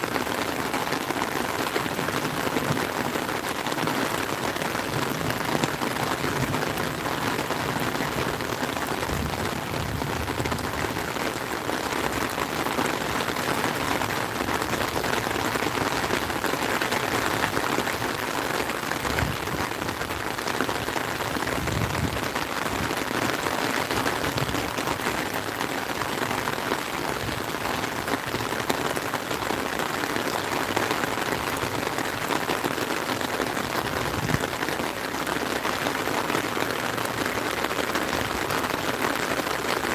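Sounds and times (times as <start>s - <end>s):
rain drumming on an umbrella: 0.0s - 39.9s
rain hitting lake surface: 0.0s - 39.9s.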